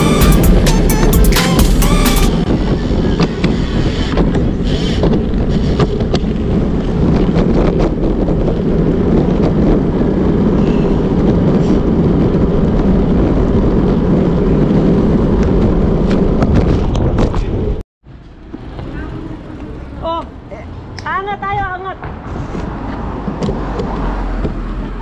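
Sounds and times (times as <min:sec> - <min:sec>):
wind buffeting microphone: 0:02.2 - 0:17.8, 0:18.4 - 0:25.0.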